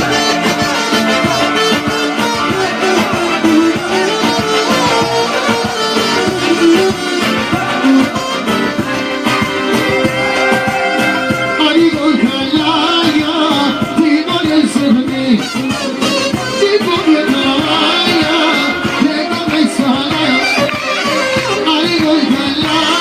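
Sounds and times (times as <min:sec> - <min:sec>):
folk band with plucked strings: 0:00.0 - 0:23.0
person singing: 0:00.0 - 0:23.0.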